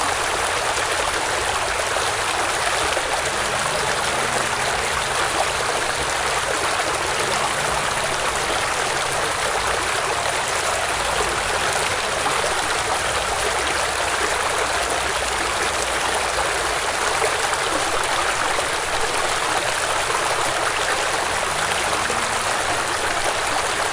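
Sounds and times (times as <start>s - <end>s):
water rushing: 0.0s - 23.9s.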